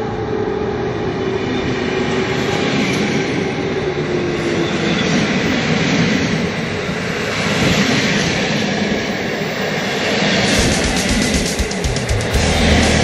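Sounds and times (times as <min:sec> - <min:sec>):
train carriages rolling past: 0:00.0 - 0:13.0
train hum: 0:00.0 - 0:13.0.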